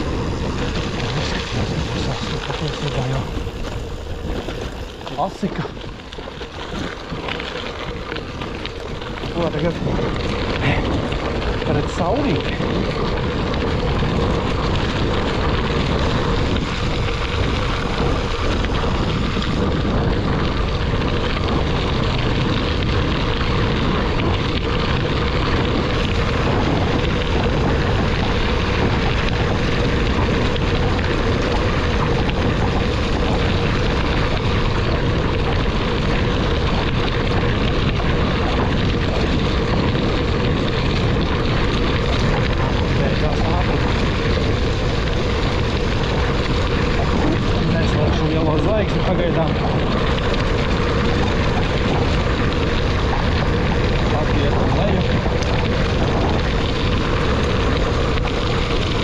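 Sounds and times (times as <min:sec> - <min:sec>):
constant humming tone: 0:00.0 - 0:59.0
road rushing noise: 0:00.0 - 0:59.0.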